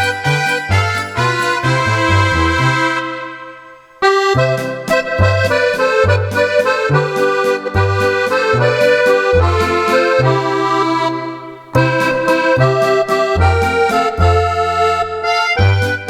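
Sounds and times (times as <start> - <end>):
accordion bass and chords: 0.0 - 16.0
accordion melody: 0.0 - 16.0.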